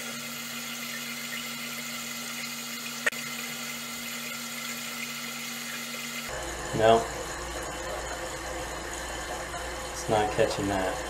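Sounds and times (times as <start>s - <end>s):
water running into toilet tank: 0.0s - 11.0s.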